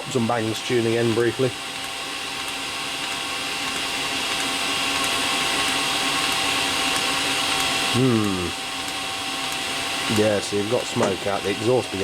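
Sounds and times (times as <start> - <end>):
heater fan whirring: 0.0 - 12.0.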